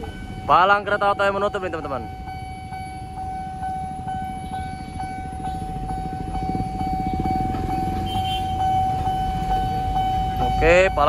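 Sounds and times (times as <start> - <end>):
cars rumbling across tracks: 0.0 - 11.0
level crossing alarm tone: 0.0 - 11.0.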